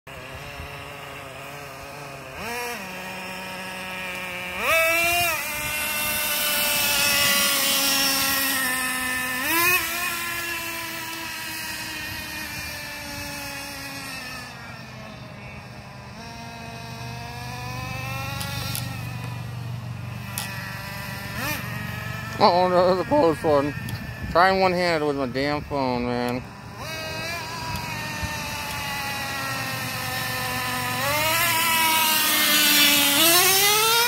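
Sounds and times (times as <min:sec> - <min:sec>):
rc truck engine revving: 0:00.1 - 0:34.0.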